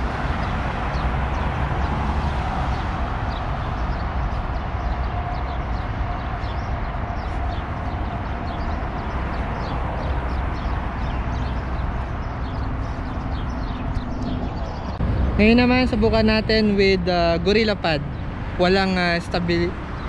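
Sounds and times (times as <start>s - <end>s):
road traffic passing: 0.0s - 20.0s
wind rumble on microphone: 0.0s - 20.0s.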